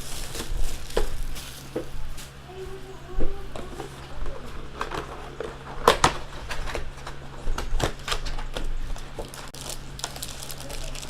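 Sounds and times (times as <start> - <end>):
packaging rustling: 0.0 - 2.4, 4.6 - 11.0.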